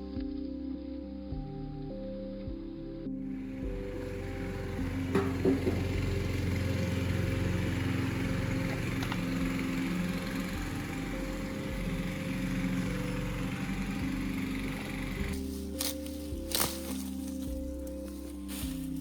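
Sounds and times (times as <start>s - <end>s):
lawn mower engine running: 3.3s - 19.0s.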